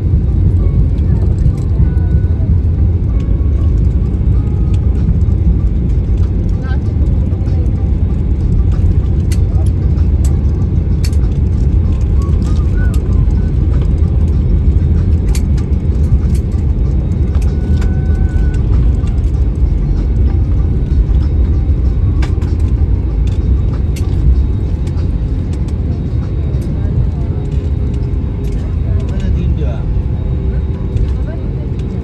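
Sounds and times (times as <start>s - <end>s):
aircraft cabin rumble: 0.0s - 32.0s.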